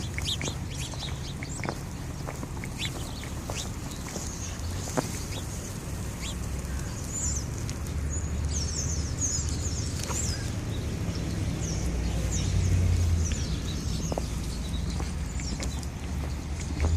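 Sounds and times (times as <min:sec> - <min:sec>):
small birds chirping: 0:00.0 - 0:16.9
steady low rumble: 0:00.0 - 0:16.9.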